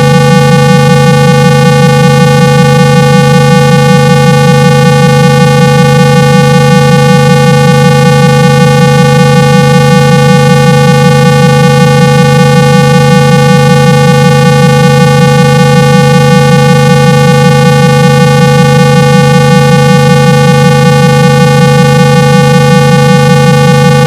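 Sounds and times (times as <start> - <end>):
low-pitched synthetic test tone: 0.0 - 24.0.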